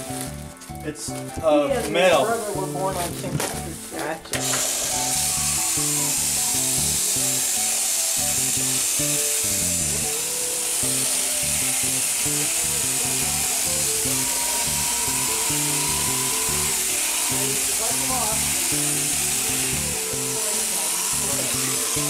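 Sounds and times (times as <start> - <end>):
electric shears buzzing: 0.0 - 22.0
music: 0.0 - 22.0.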